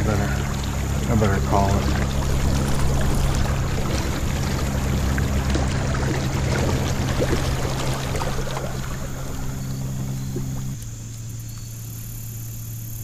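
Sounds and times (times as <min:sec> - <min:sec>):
electric motor humming: 0:00.0 - 0:12.5
water rushing along hull: 0:00.0 - 0:13.0.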